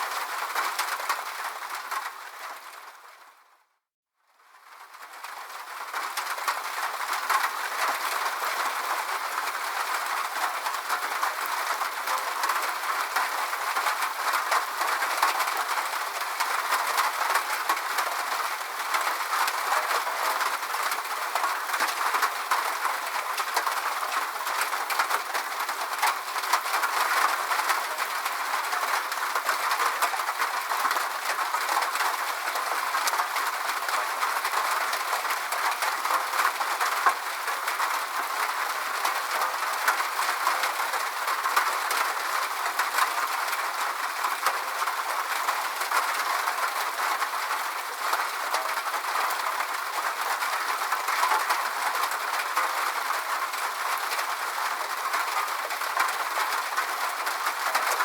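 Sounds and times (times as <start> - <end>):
steady rain: 0.0 - 3.7, 4.3 - 58.0.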